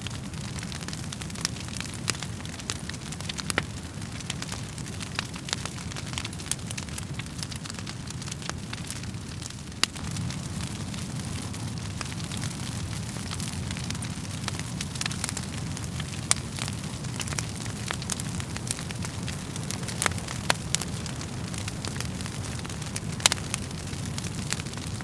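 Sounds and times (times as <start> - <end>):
burning logs popping: 0.0 - 25.0
low rumble of flames: 0.0 - 25.0.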